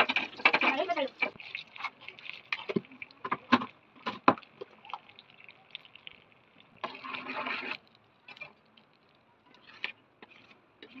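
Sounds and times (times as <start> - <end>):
seeds crackling in hot oil: 0.0 - 11.0.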